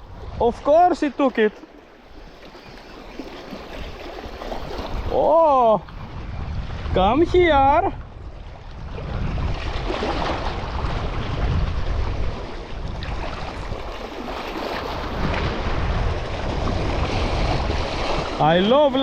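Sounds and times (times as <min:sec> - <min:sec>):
wind buffeting microphone: 0:00.0 - 0:01.2, 0:02.1 - 0:19.0
sea waves washing: 0:00.0 - 0:19.0.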